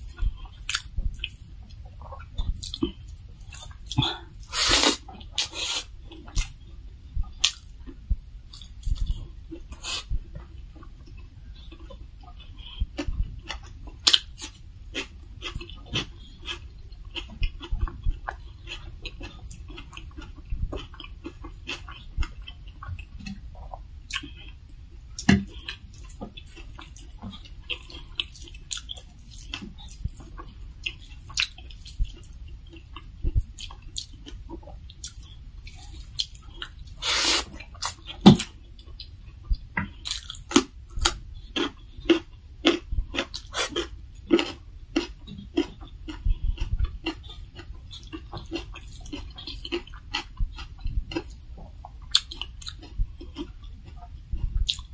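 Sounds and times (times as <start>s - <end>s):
chewing and wet mouth smacks: 0.1s - 4.0s, 7.2s - 10.1s, 10.8s - 24.6s, 25.2s - 54.9s.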